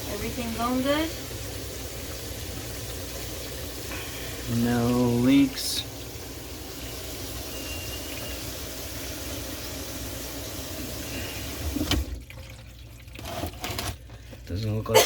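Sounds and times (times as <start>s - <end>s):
tap water running into sink: 0.0s - 14.6s.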